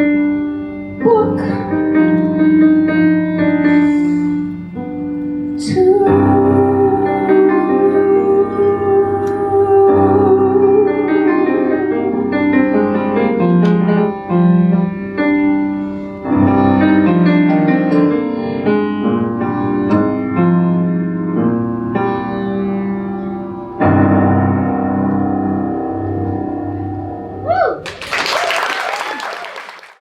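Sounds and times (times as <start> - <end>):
piano playing chords and melody: 0.0 - 27.8.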